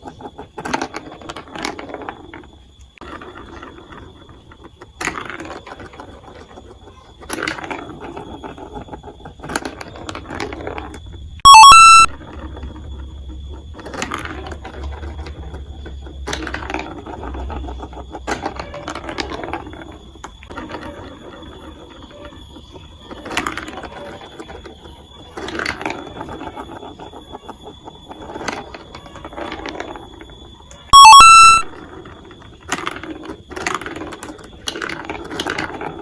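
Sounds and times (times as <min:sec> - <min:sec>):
marbles clattering on plastic track: 0:00.0 - 0:36.0.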